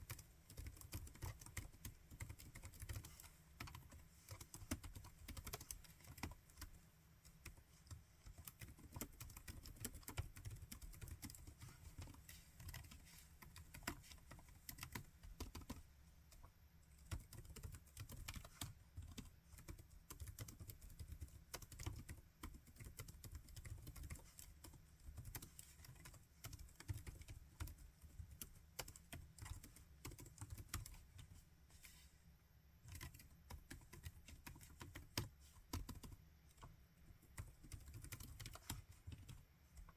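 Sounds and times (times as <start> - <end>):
laptop keyboard typing: 0.0 - 31.4, 32.8 - 39.9.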